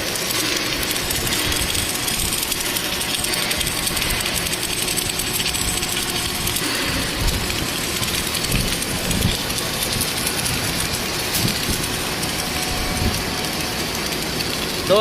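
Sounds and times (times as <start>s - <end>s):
welding machine running: 0.0s - 15.0s.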